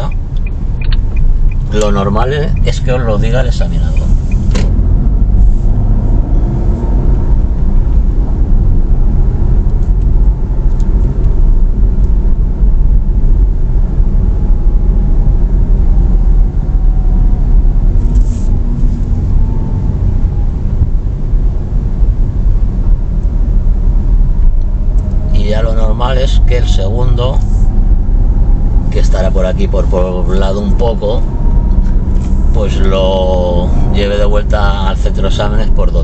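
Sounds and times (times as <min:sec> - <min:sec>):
car engine and road rumble: 0:00.0 - 0:36.0
faint shifting tones: 0:00.0 - 0:36.0.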